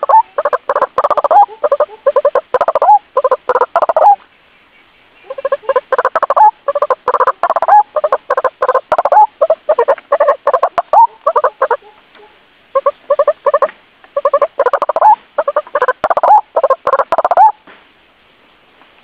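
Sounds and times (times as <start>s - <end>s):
waterhen calls: 0.0s - 17.6s.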